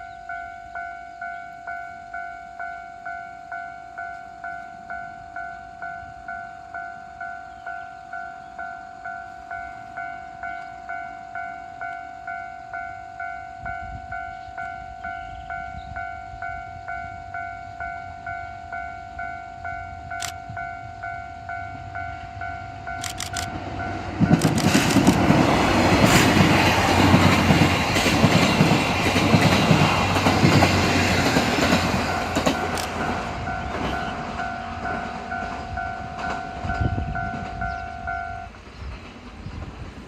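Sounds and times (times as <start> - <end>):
diesel locomotive engine: 0.0 - 40.0
train carriages rumbling: 4.0 - 40.0.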